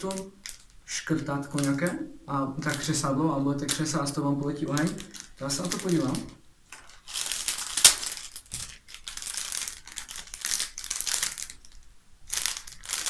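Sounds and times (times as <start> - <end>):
plastic bag crinkling: 0.0 - 2.0, 2.6 - 13.0.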